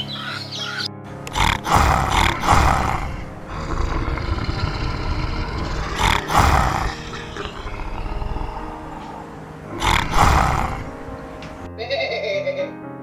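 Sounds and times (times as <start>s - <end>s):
big cat roaring: 0.2s - 11.3s.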